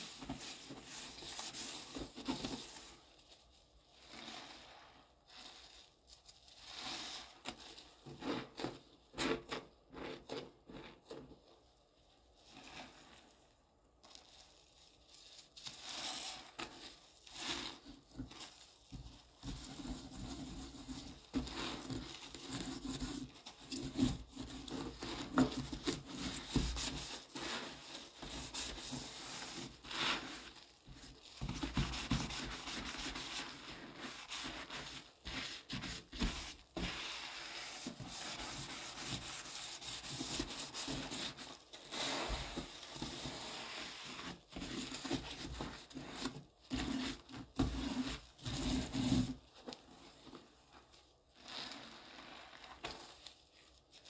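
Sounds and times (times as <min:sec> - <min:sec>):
sponge scrubbing a sink: 0:00.0 - 0:54.0.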